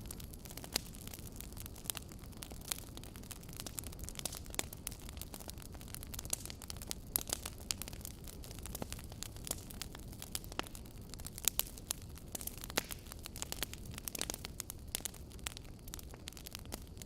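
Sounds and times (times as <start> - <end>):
fire crackling and popping: 0.0 - 17.0
low rumble of burning: 0.0 - 17.0.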